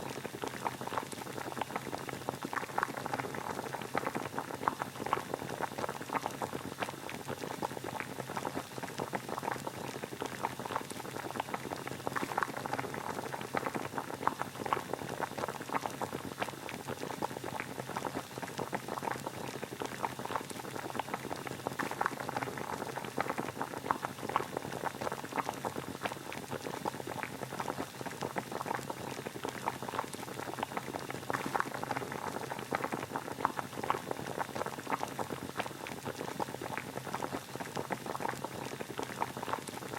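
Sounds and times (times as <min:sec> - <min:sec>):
water boiling: 0:00.0 - 0:39.9.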